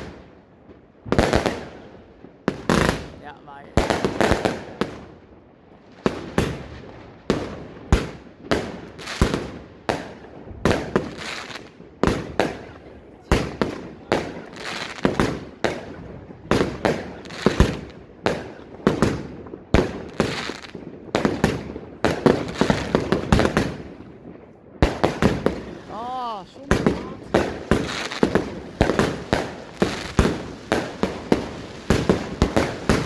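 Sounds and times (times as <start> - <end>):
firework bangs: 0.0 - 33.0.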